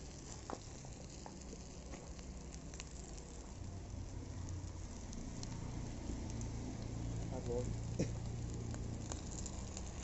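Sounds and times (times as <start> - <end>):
fish frying in oil: 0.0 - 10.0
wood fire crackling: 0.0 - 10.0.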